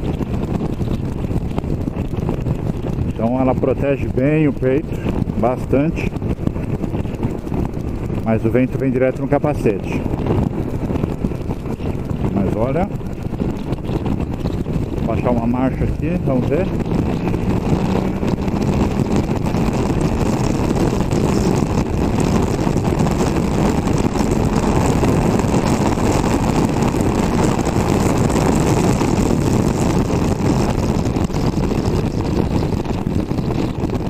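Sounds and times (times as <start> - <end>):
motorcycle engine pulling hard: 0.0 - 34.0
wind rush over microphone: 0.0 - 34.0.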